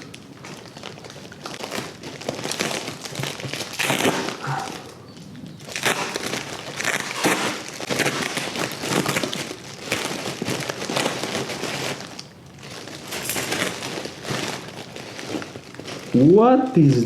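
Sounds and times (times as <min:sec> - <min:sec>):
package wrapping crinkling: 0:00.0 - 0:17.0.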